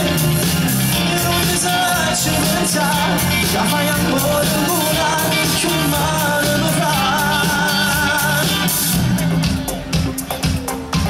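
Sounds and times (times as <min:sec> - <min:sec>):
man singing with vibrato: 0:00.0 - 0:09.1
live pop band playing: 0:00.0 - 0:11.0.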